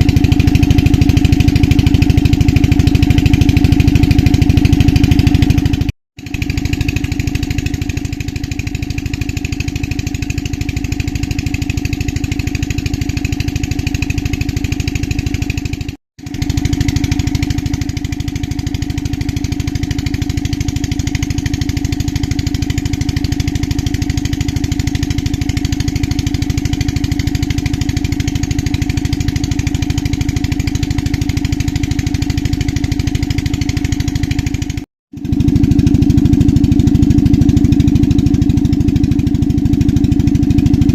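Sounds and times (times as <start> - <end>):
pulsing engine drone: 0.0 - 40.9.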